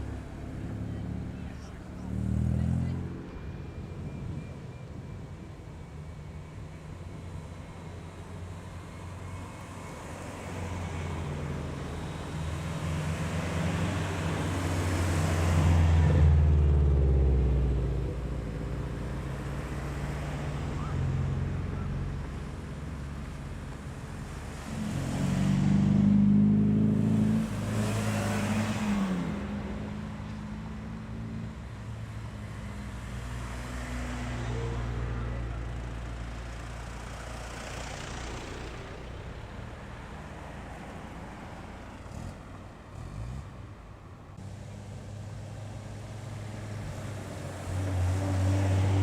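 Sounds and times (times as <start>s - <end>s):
cars driving past: 0.0s - 49.0s.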